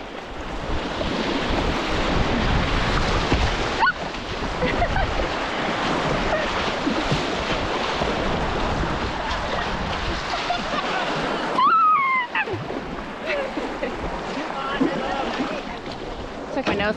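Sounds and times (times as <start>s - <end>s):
wind noise on microphone: 0.0s - 16.9s
river rapids rushing: 1.9s - 16.9s.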